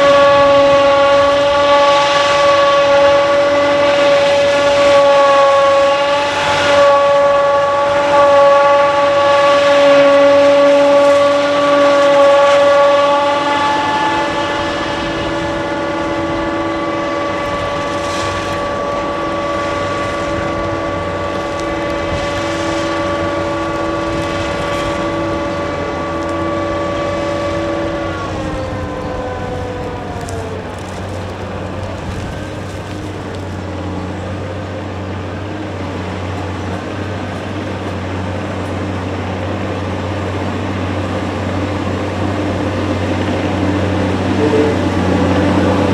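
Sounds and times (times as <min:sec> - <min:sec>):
forage harvester high whine: 0:00.0 - 0:45.9.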